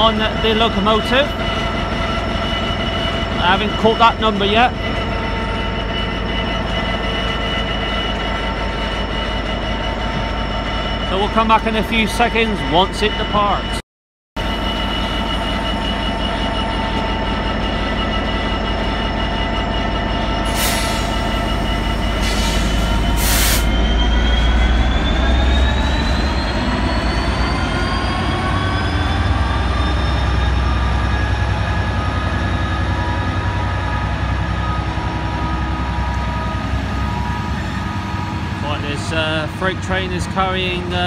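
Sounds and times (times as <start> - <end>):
diesel locomotive engine rumble: 0.0 - 13.8, 14.4 - 41.0
rising locomotive whine: 0.0 - 13.8, 14.4 - 41.0.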